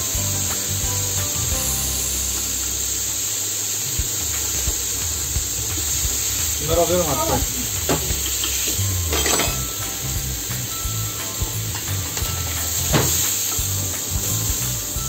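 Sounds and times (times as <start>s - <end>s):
meat sizzling in a grill pan: 0.0s - 15.0s.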